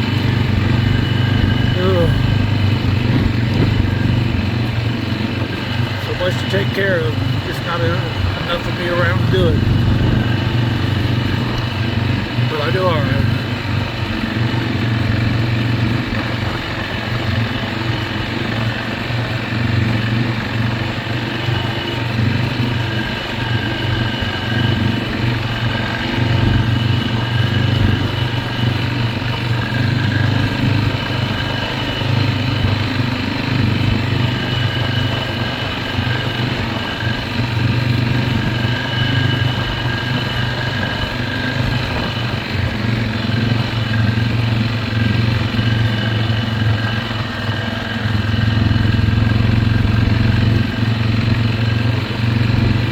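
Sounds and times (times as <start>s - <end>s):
lawn mower engine running: 0.0s - 52.9s.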